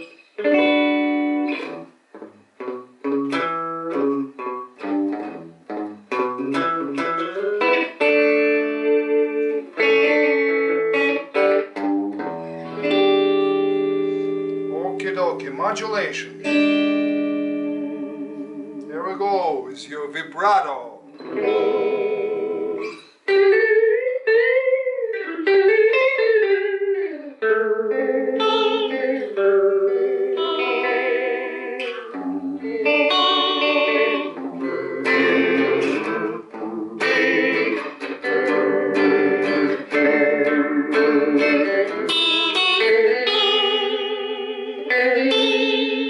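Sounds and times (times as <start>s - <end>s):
electric guitar with vibrato: 0.0s - 46.0s.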